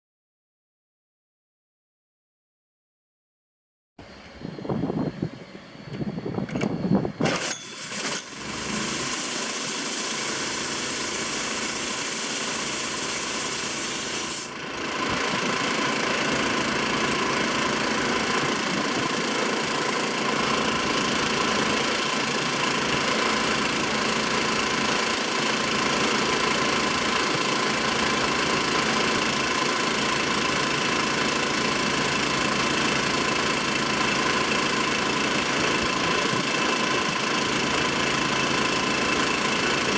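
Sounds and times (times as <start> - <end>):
air compressor engine running: 4.0 - 39.9.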